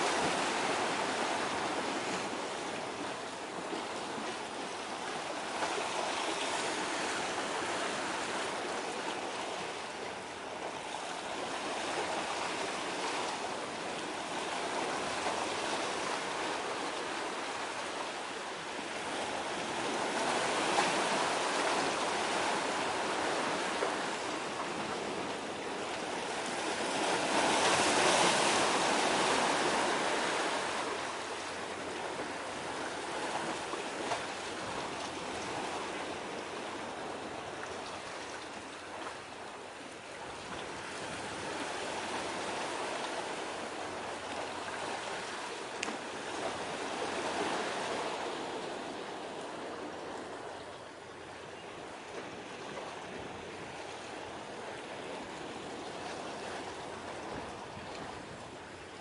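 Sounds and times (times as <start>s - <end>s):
waves washing on shore: 0.0s - 59.0s.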